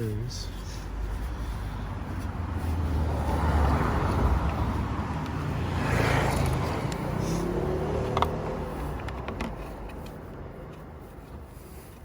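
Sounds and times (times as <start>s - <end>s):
road traffic rumble: 0.0s - 12.0s
vehicle passing by: 0.5s - 12.0s.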